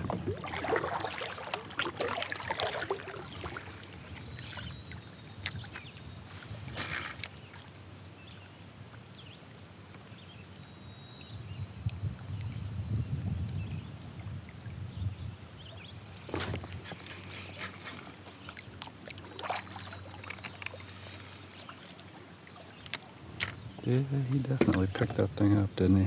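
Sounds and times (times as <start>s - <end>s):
water lapping against kayak hull: 0.0s - 10.3s, 13.2s - 25.4s.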